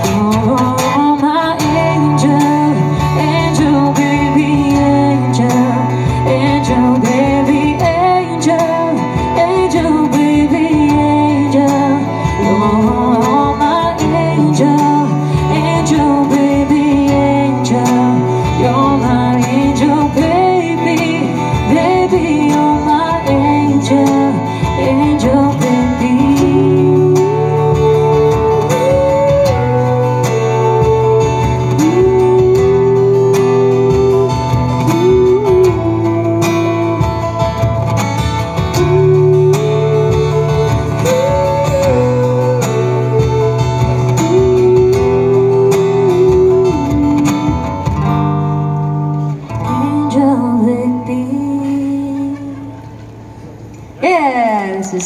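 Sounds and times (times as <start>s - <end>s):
woman singing into a microphone: 0.0s - 53.4s, 54.0s - 55.0s
acoustic guitar: 0.0s - 55.0s.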